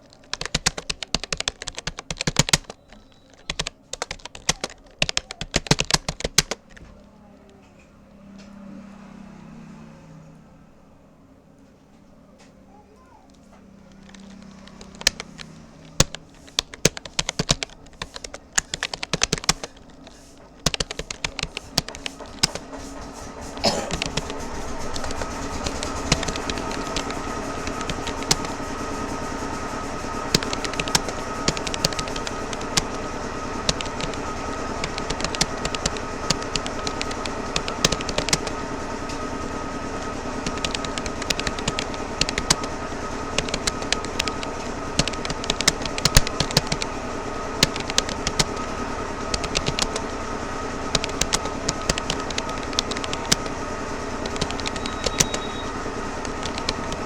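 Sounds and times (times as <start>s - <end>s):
keyboard typing clicks: 0.0s - 7.6s, 13.8s - 46.9s, 47.6s - 50.2s, 50.8s - 53.6s, 54.2s - 57.0s
background hum with held tones: 0.0s - 57.0s.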